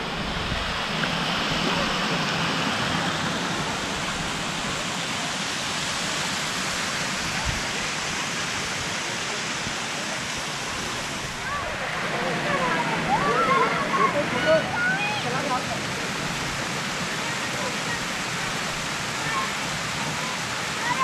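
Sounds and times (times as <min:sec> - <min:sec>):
water rushing down a spillway: 0:00.0 - 0:21.0.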